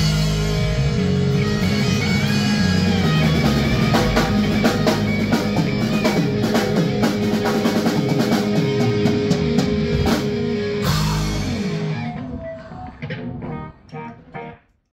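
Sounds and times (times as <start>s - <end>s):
rock band playing: 0.0s - 14.7s.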